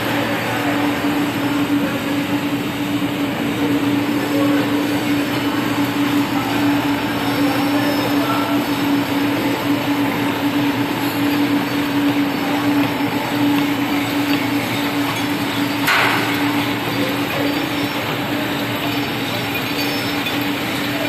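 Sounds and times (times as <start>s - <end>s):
packing machine drone: 0.0s - 21.0s.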